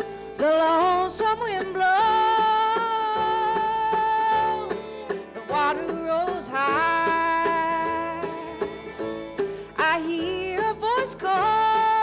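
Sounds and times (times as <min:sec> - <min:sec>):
woman singing: 0:00.0 - 0:08.9, 0:09.7 - 0:12.0
plucked mandolin: 0:00.0 - 0:12.0
upright bass: 0:00.0 - 0:12.0.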